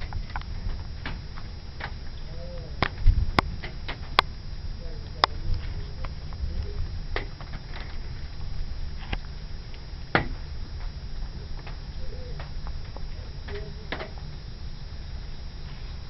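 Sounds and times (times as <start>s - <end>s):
low thunder rumble: 0.0s - 16.0s.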